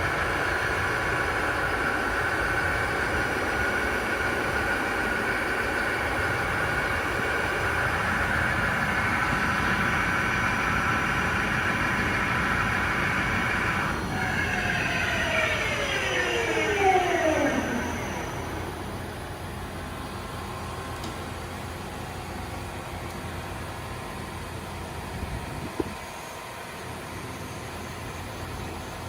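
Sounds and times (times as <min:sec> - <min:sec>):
lathe running with high whine: 0:00.0 - 0:24.8.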